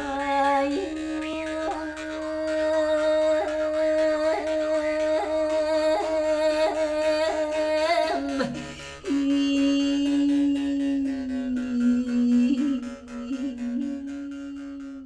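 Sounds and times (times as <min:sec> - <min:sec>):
woman singing a steady note: 0:00.0 - 0:15.0.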